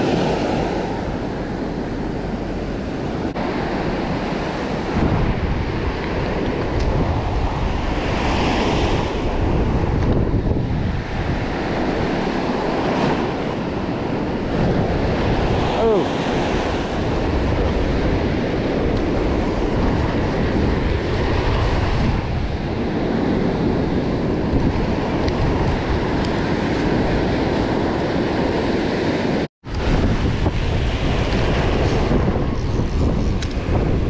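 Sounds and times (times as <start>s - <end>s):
ocean surf washing up beach: 0.0s - 34.0s
wind buffeting microphone: 0.0s - 34.0s.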